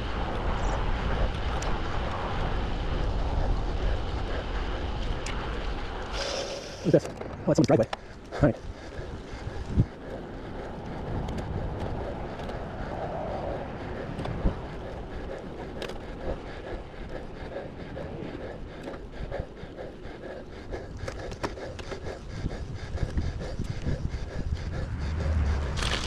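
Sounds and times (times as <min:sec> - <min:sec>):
bike tyres on asphalt: 0:00.0 - 0:26.0
wind buffeting microphone: 0:00.0 - 0:26.0.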